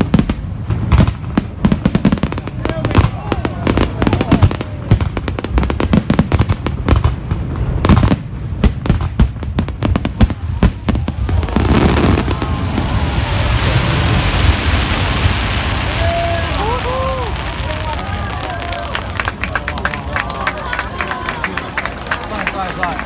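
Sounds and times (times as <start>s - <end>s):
firework bangs and crackles: 0.0s - 23.0s.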